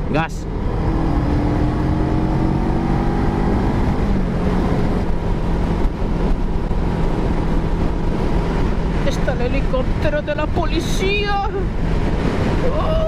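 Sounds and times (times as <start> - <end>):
wind noise: 0.0 - 13.0.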